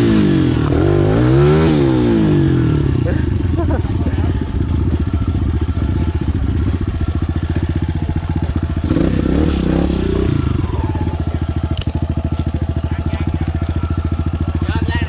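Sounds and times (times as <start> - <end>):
dirt bike engine chugging: 0.0 - 15.0.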